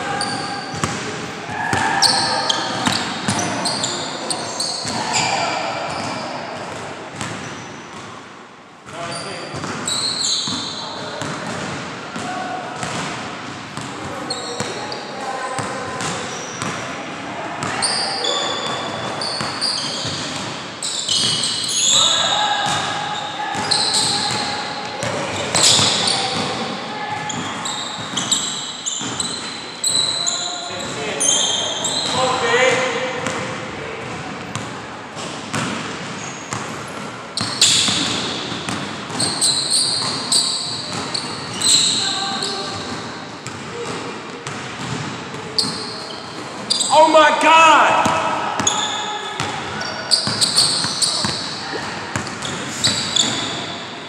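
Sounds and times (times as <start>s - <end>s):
sneaker squeaks: 0.0s - 8.2s, 8.9s - 13.1s, 13.8s - 16.9s, 17.6s - 47.2s, 47.8s - 54.0s.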